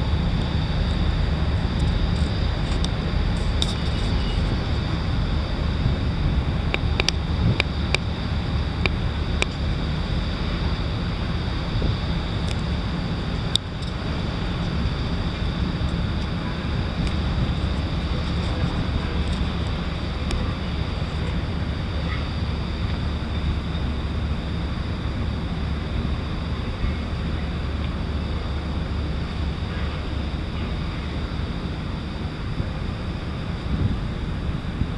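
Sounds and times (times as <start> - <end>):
low rumble: 0.0 - 34.9
wind buffeting microphone: 0.0 - 34.9.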